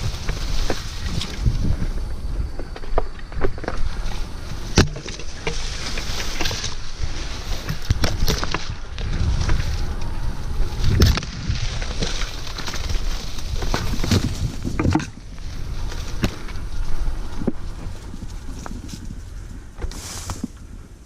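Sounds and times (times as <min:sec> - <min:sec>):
bike knocks and rattles: 0:00.0 - 0:20.7
wind rumbling on microphone: 0:00.0 - 0:21.0.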